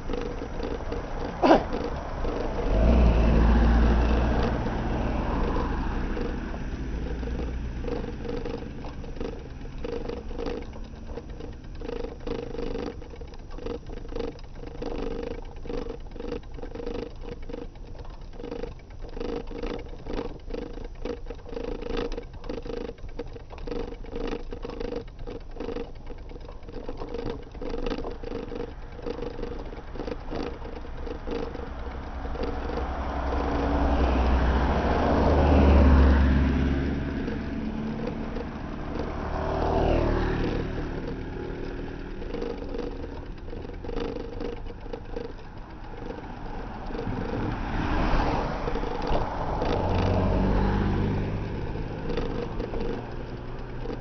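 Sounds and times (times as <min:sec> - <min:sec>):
bicycle clicking rattle: 0:00.0 - 0:54.0
vehicle rumble: 0:00.0 - 0:54.0.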